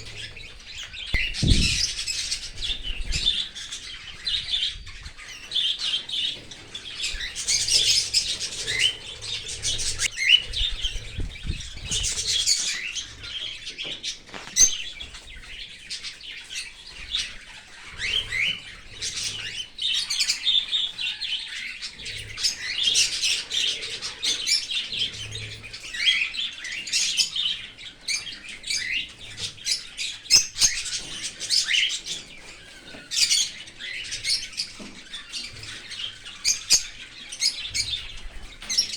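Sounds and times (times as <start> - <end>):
cockatiels chirping: 0.0 - 38.9.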